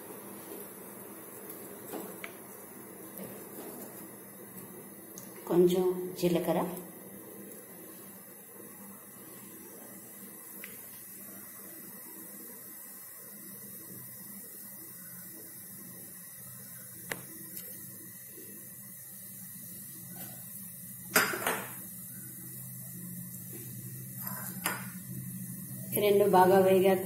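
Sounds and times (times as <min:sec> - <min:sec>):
seeds sizzling in oil: 0:00.0 - 0:27.0.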